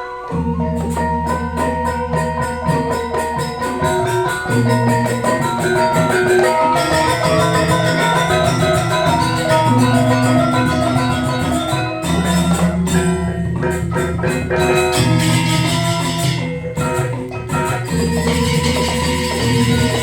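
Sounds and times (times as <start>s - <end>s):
metallophones ringing: 0.0s - 20.0s.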